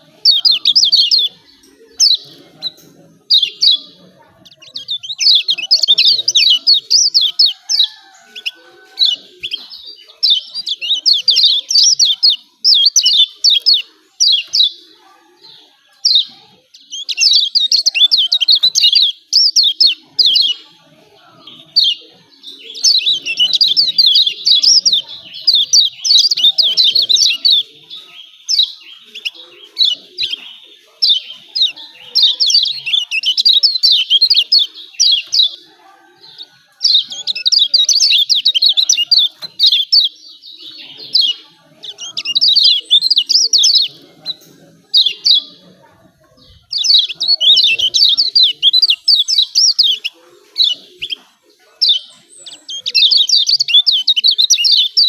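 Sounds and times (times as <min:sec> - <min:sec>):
bird twittering: 0:00.0 - 0:14.9, 0:16.0 - 0:20.6, 0:21.4 - 0:35.6, 0:36.4 - 0:45.6, 0:46.6 - 0:55.0.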